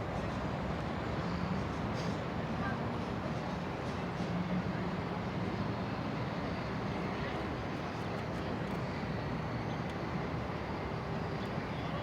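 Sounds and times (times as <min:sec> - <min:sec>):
low city rumble with hiss: 0:00.0 - 0:12.0.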